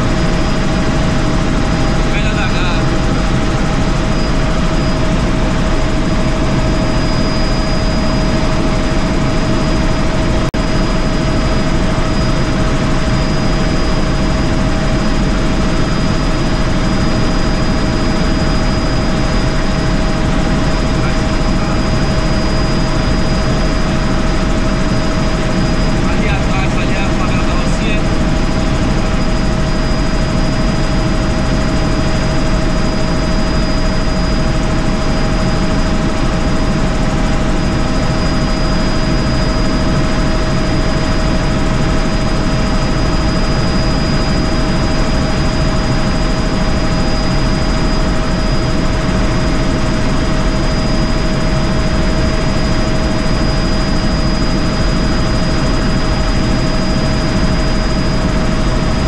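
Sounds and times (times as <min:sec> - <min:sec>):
helicopter rotor and engine din: 0:00.0 - 0:59.0
steady high whine: 0:00.0 - 0:59.0.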